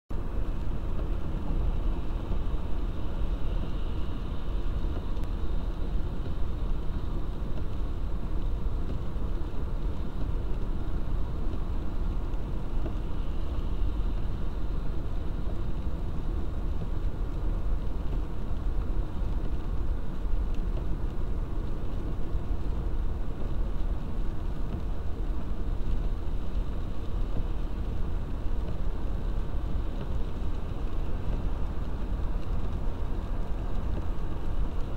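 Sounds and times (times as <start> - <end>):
car engine and tyres rumbling: 0.1 - 34.9.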